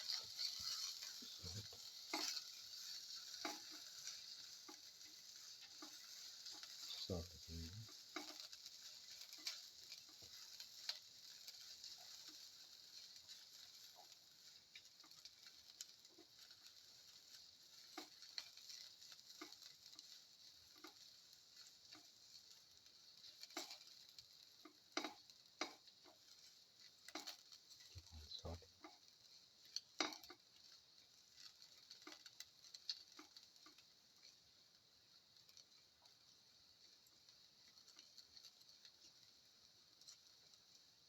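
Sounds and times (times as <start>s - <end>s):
utensil clicking against pan: 0.0s - 40.9s
food sizzling in oil: 0.0s - 41.0s.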